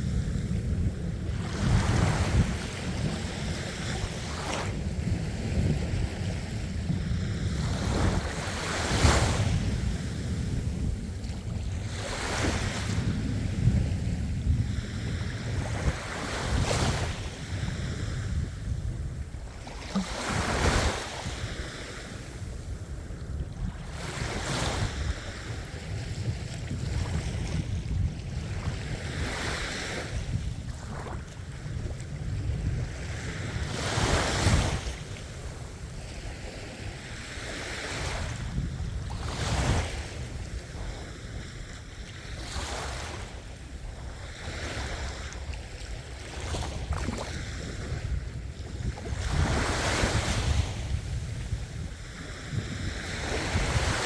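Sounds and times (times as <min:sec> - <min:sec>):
low rumble of surf: 0:00.0 - 0:54.0
ocean waves breaking: 0:00.0 - 0:54.0.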